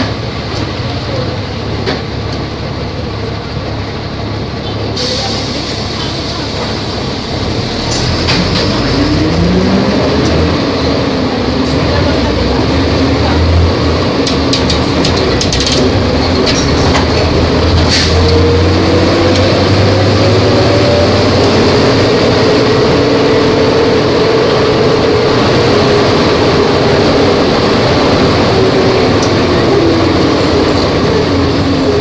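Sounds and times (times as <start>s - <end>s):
bus diesel engine running: 0.0s - 32.0s.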